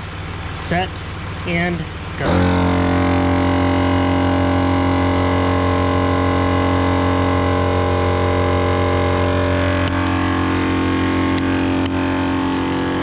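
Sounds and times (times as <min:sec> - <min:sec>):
air compressor droning: 0:00.0 - 0:13.0.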